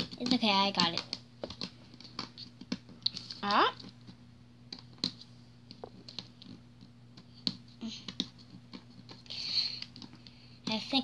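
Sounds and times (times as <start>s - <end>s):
fingers tapping on cardboard: 0.0s - 10.8s
faint steady hum: 0.0s - 11.0s.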